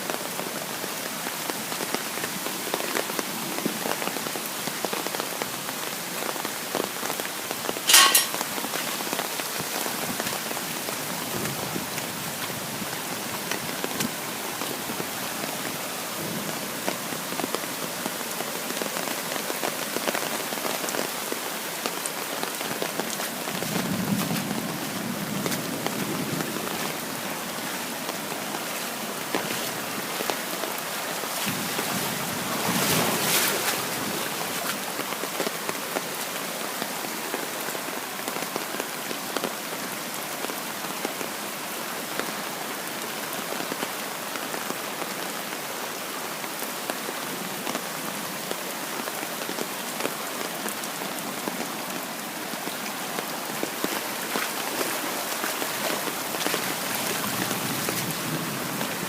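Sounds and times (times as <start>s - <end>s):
heavy rain and hail: 0.0s - 59.0s.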